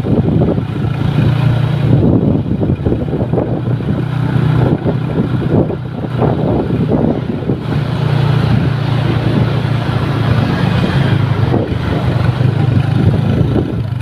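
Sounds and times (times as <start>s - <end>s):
bus diesel engine drone: 0.0s - 14.0s
road noise: 0.0s - 14.0s.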